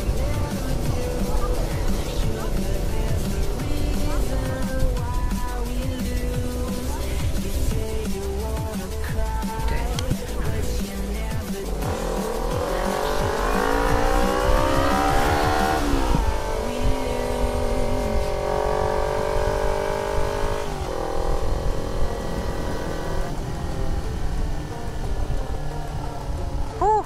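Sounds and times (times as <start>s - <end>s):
vehicle engine accelerating: 0.0s - 27.0s.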